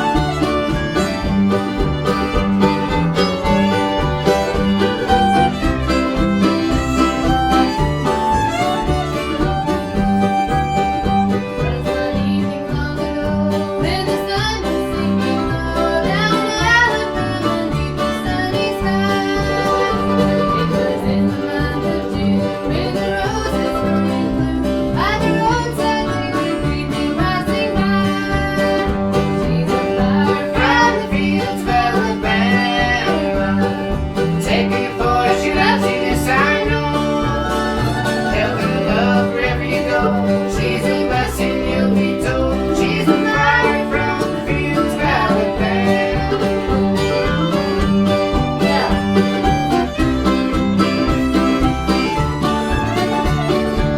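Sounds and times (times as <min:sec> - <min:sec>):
steady bass beat: 0:00.0 - 0:25.7, 0:26.6 - 0:53.9
banjo: 0:00.0 - 0:53.9
fiddle: 0:00.0 - 0:53.9
guitar: 0:00.0 - 0:53.9.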